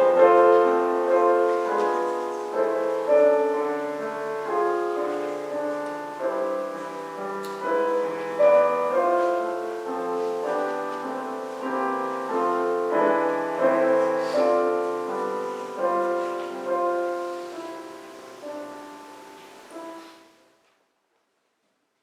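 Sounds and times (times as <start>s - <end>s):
slow solo piano: 0.0s - 20.6s.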